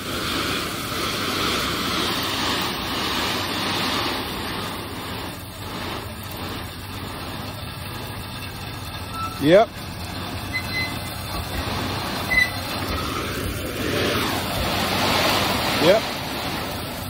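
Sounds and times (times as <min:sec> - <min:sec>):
gravel pouring and rattling: 0:00.0 - 0:17.0.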